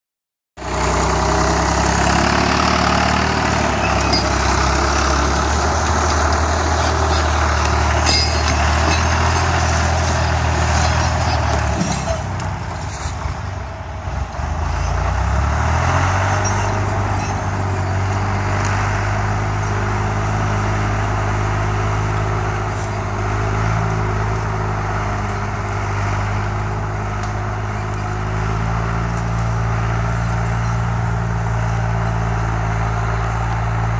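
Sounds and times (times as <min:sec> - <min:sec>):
heavy vehicle engine running: 0:00.6 - 0:33.9.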